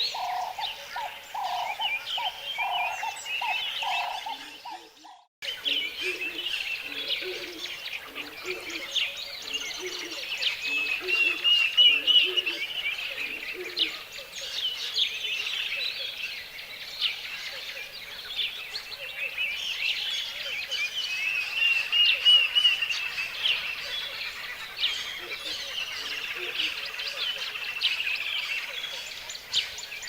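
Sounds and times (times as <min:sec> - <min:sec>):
birds chirping and singing: 0:00.0 - 0:30.0.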